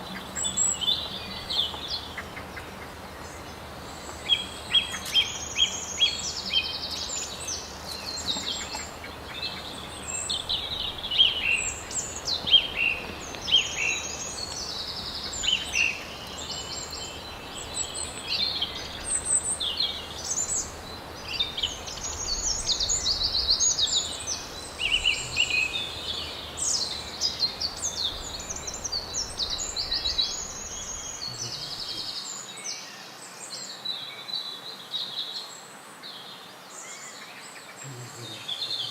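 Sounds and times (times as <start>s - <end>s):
songbirds chirping and trilling: 0.0s - 38.9s
steady background hiss: 0.0s - 38.9s.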